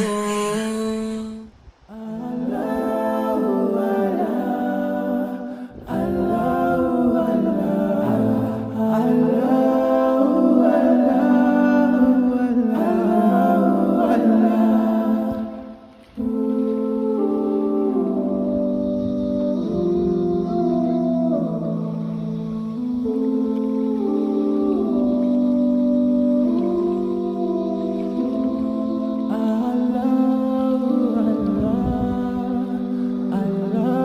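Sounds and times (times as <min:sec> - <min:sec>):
layered voices humming: 0:00.0 - 0:34.0.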